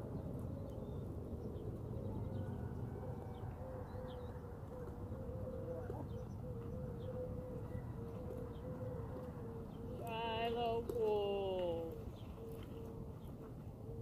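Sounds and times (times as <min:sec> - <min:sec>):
dove cooing: 0:02.1 - 0:14.0.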